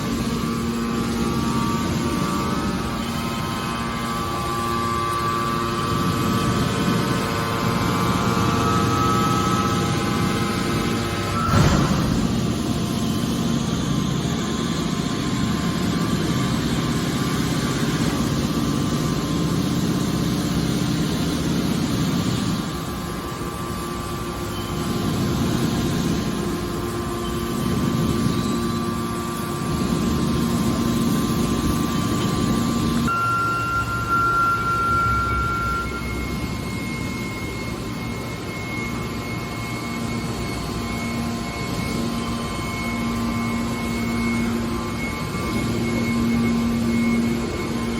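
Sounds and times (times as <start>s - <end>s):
baler mechanical drone: 0.0s - 47.9s
high steady whine: 0.0s - 47.9s.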